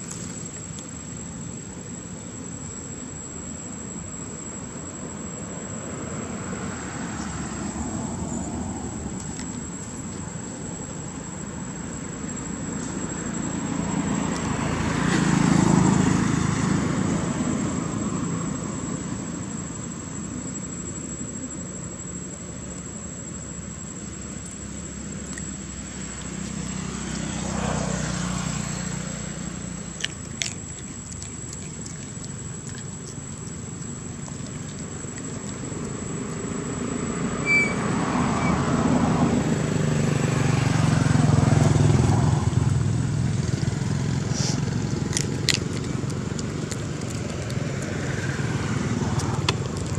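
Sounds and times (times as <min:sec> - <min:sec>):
passing engine hum: 0:04.6 - 0:49.9.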